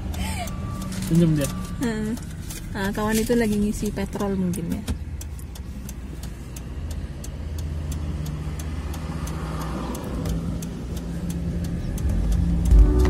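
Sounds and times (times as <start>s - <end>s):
car engine running: 0.0s - 13.0s
regular ticking: 0.0s - 13.0s.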